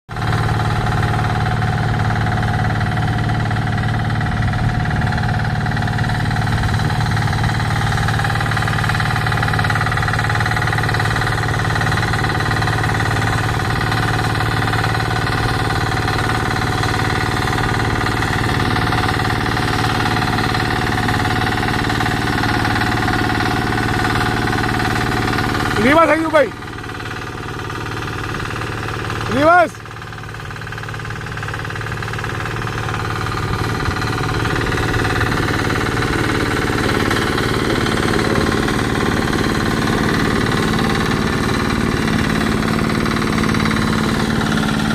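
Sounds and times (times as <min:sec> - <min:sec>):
road roller engine running: 0:00.1 - 0:44.9.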